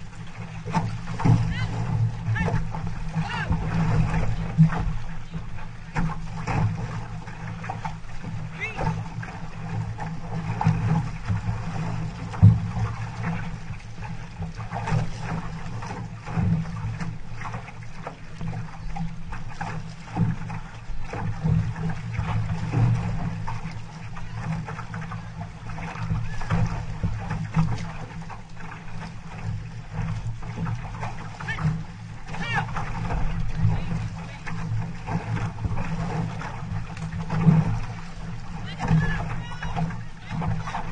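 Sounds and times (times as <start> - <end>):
water splashing against canoe hull: 0.0 - 40.9.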